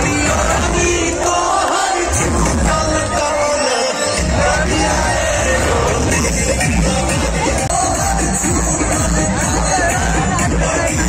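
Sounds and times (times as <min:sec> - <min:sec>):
crowd voices: 0:00.0 - 0:11.0
loud song with singing: 0:00.0 - 0:11.0.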